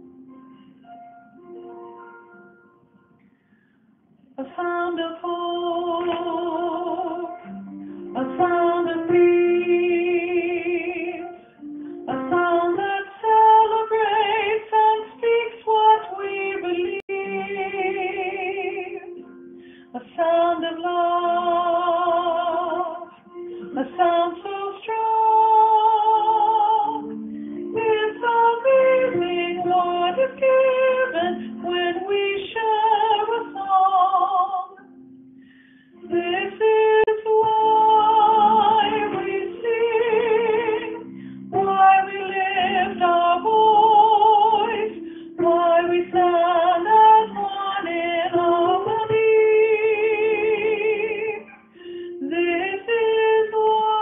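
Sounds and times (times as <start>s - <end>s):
soft instrumental accompaniment: 0.0s - 54.0s
woman singing with vibrato: 4.4s - 19.2s, 19.8s - 34.8s, 36.0s - 54.0s.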